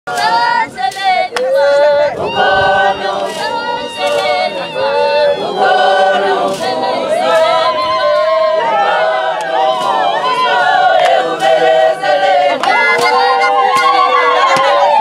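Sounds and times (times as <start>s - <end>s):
women singing in harmony: 0.1s - 15.0s.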